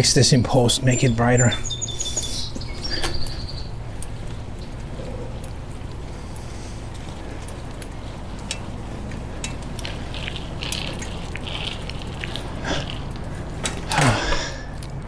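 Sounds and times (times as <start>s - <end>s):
bicycle rolling rumble: 0.0s - 15.0s
bike clicks and rattles: 0.0s - 15.0s.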